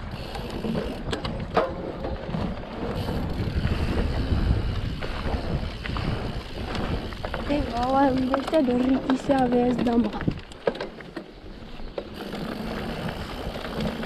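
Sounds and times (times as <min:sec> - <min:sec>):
wind buffeting microphone: 0:00.0 - 0:10.7, 0:11.3 - 0:14.0
bike clicks and knocks: 0:00.0 - 0:14.0
bike tyres rumbling on dirt: 0:00.0 - 0:14.0.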